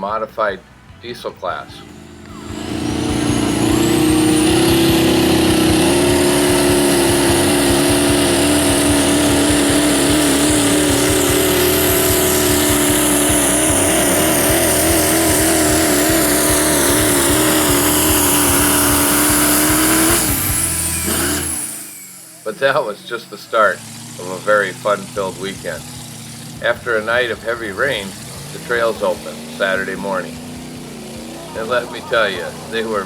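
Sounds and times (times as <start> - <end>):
high whine: 1.6 - 33.0
truck engine at high revs: 1.6 - 33.0.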